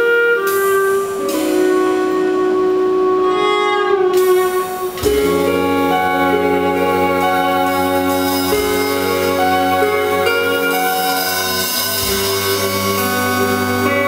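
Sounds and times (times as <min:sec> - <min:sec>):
cello: 0:00.0 - 0:14.0
clarinet: 0:00.0 - 0:14.0
double bass: 0:00.0 - 0:14.0
electric guitar: 0:00.0 - 0:14.0.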